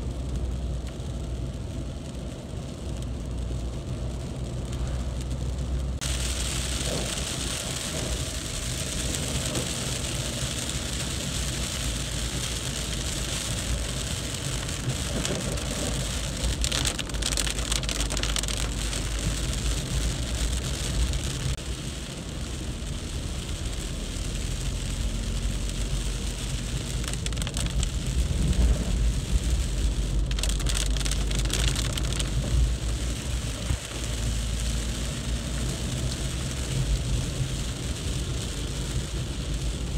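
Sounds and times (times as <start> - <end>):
heavy rain on road: 0.0 - 39.9
low rumble: 0.0 - 39.9.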